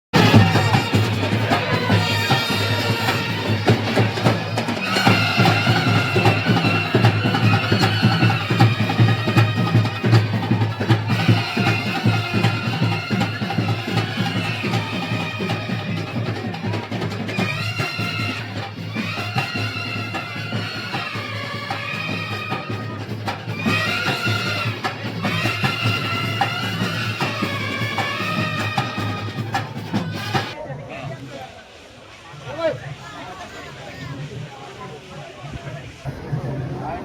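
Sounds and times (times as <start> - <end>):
rapid drumming: 0.1 - 30.6
wind instruments melody: 0.1 - 31.8.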